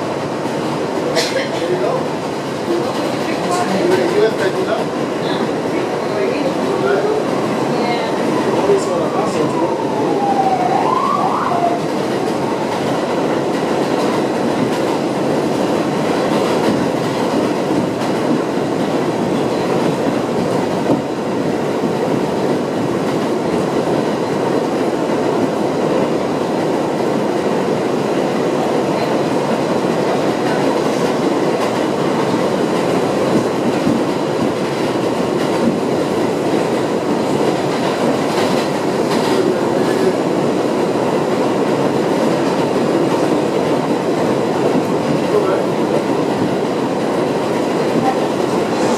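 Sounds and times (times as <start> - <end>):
subway wheels rolling on rails: 0.0 - 48.9.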